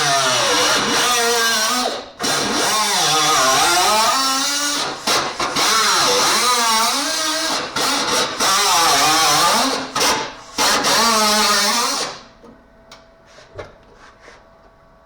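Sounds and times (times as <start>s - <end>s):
grinder cutting sheet metal: 0.0s - 12.3s.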